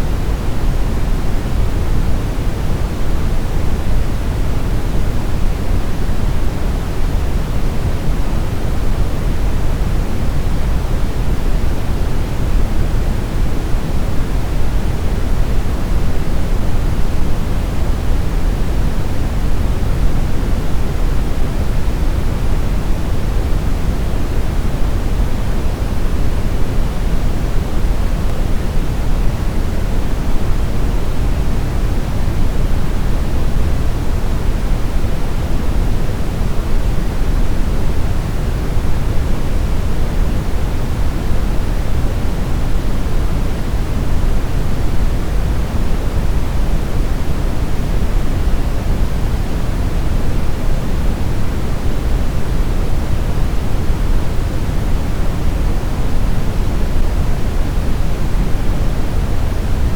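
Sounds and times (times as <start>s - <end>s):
brown noise hiss: 0.0s - 59.9s.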